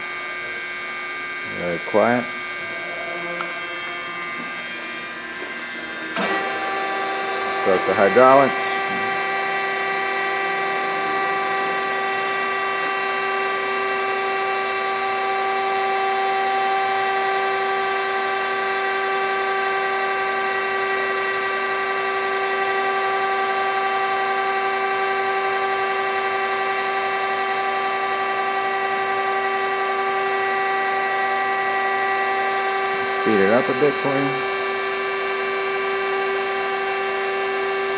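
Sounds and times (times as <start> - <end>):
grinder machine whine: 0.0 - 37.9.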